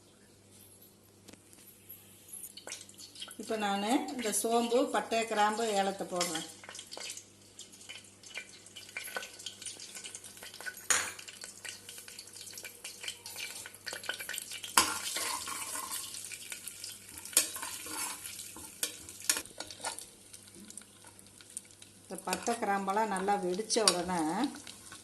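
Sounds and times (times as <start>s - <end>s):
spices sizzling in hot oil: 2.4s - 25.0s.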